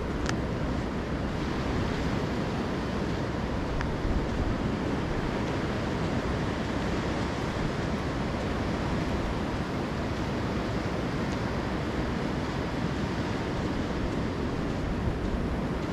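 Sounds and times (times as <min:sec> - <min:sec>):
waves washing onto beach: 0:00.0 - 0:15.9
wind rumbling on microphone: 0:00.0 - 0:15.9.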